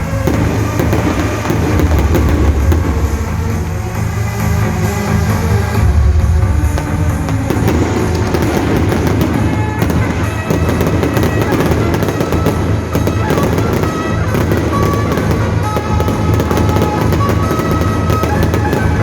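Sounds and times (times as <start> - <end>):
fireworks crackling and popping: 0.0 - 19.0
music with long held notes: 0.0 - 19.0.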